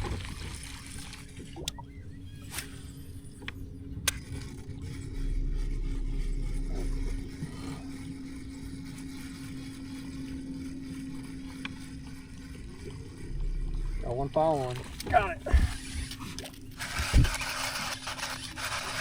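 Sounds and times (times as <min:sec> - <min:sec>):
low rumble: 0:00.0 - 0:17.6
boat motor humming: 0:00.0 - 0:19.0.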